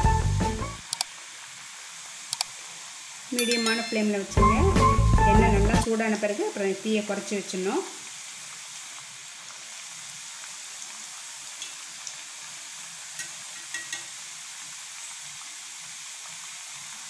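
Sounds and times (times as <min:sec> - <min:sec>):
deep-frying sizzle in hot oil: 0:00.0 - 0:17.0.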